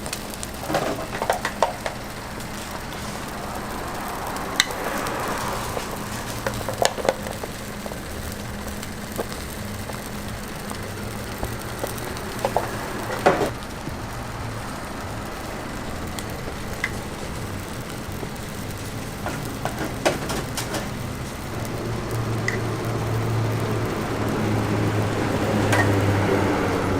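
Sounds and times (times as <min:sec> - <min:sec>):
food sizzling on a griddle: 0:00.0 - 0:26.9.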